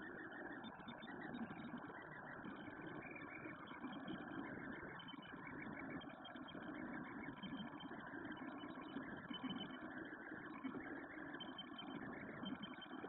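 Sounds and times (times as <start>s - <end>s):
three-d printer fans and motors humming: 0.0s - 13.0s.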